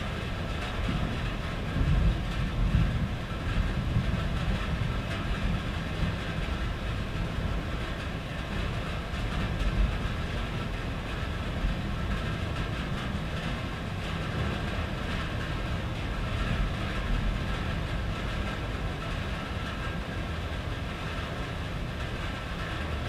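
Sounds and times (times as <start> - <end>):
low continuous rumble: 0.0 - 23.0
rain on a tin roof: 0.0 - 23.0.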